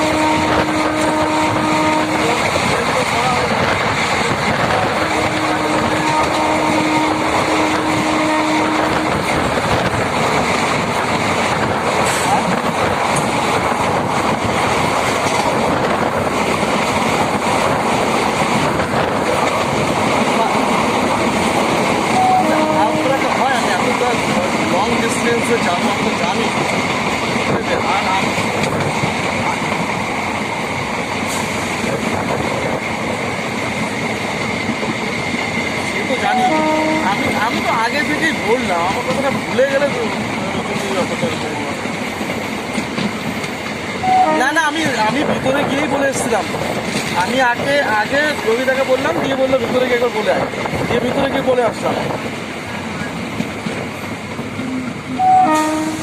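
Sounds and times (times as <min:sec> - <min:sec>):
train running noise inside coach: 0:00.0 - 0:56.0.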